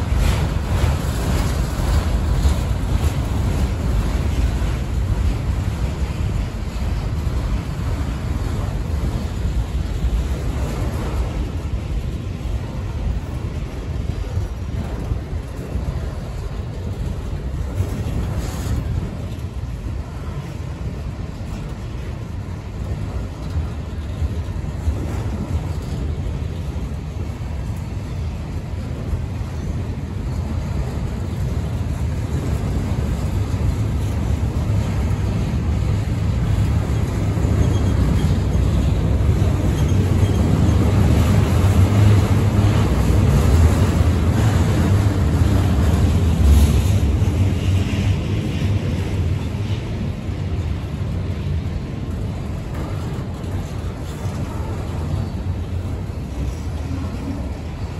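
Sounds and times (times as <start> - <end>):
steel wheels rumbling on rail: 0.0 - 57.9.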